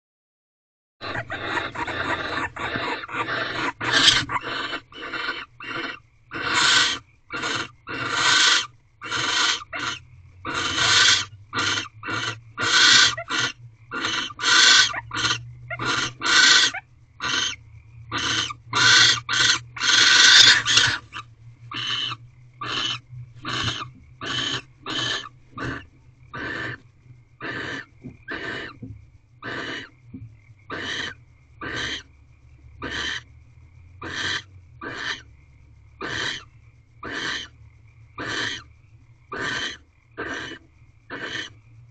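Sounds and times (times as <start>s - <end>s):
owls hissing screech calls: 1.0s - 26.8s, 27.4s - 28.8s, 29.4s - 29.9s, 30.7s - 32.1s, 32.8s - 33.2s, 34.0s - 35.3s, 36.0s - 37.5s, 38.2s - 38.7s, 39.3s - 41.6s.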